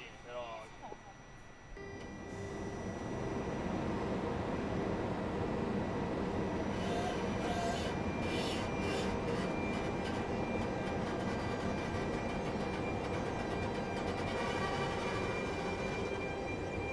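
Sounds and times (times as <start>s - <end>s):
faint high whine: 0.0s - 16.9s.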